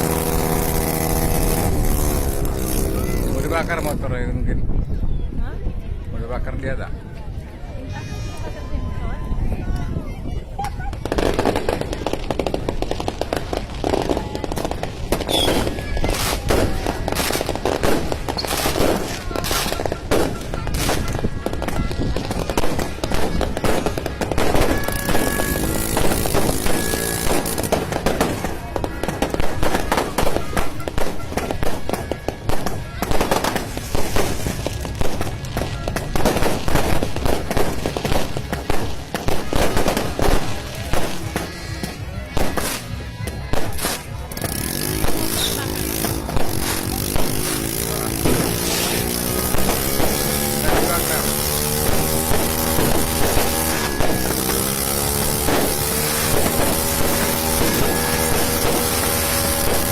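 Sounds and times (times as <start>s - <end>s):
fireworks crackling and bursting: 0.0s - 4.6s, 6.4s - 59.9s.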